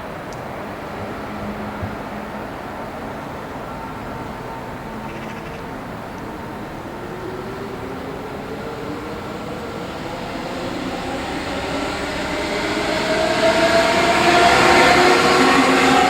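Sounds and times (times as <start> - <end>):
train passing with rumble and whine: 0.0 - 16.0.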